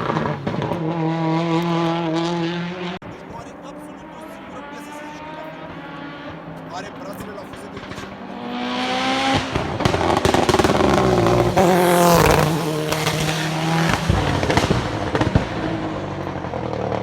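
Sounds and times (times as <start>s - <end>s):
exhaust cracks: 0.0s - 17.0s
race car engine at full throttle: 0.0s - 17.0s.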